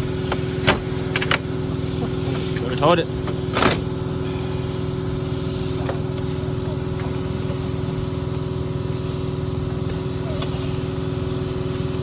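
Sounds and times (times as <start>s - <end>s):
constant hiss: 0.0s - 12.0s.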